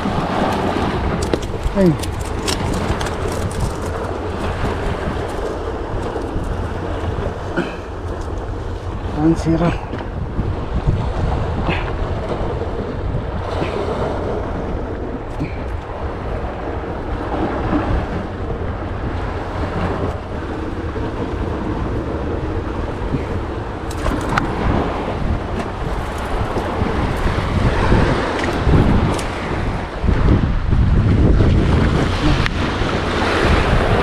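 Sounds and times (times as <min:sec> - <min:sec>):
rough sea: 0:00.0 - 0:34.0
wind buffeting microphone: 0:00.0 - 0:34.0.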